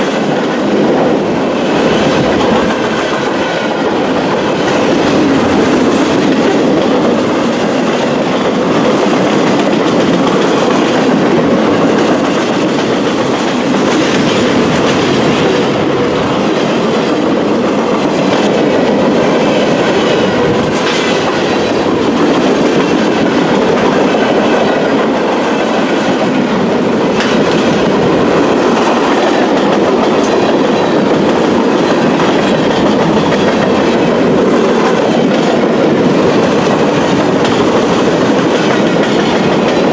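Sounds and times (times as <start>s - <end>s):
freight cars rumbling on rails: 0.0s - 39.9s
wheels clacking over rail joints: 0.0s - 39.9s.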